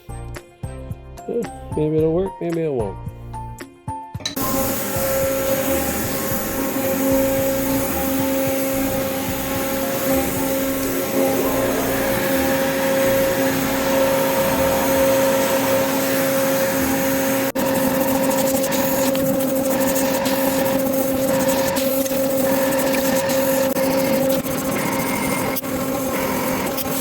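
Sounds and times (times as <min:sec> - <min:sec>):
milling machine whine and hiss: 0:04.3 - 0:27.0.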